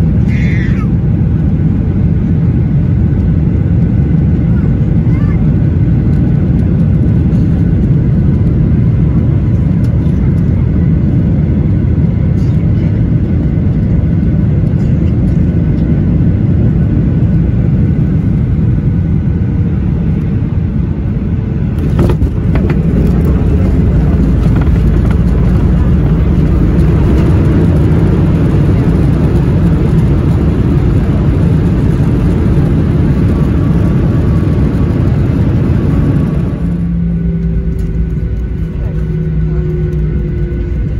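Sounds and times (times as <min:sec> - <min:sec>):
airflow around aircraft: 0:00.0 - 0:40.9
jet engines roaring: 0:00.0 - 0:40.9.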